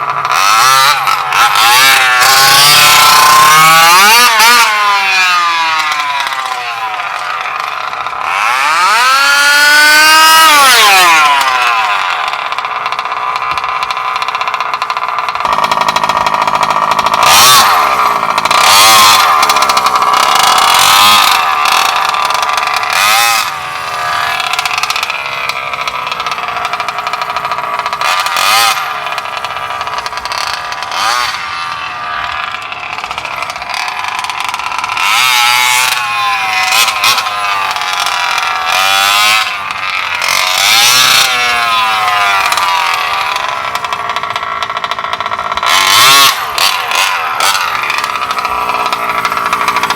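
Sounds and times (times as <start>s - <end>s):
two-stroke engine revving: 0.0s - 49.9s.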